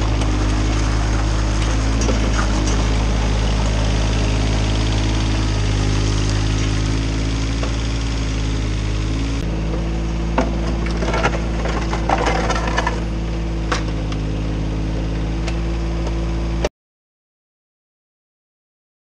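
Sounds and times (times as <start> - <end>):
excavator engine running: 0.0 - 16.7.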